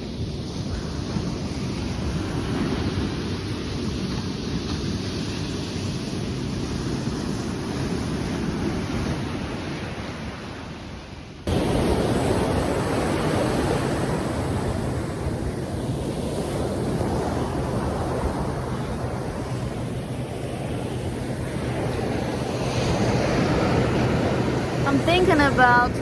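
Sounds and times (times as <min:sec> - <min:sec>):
sea waves washing on shore: 0:00.0 - 0:26.0
wind buffeting microphone: 0:00.0 - 0:26.0.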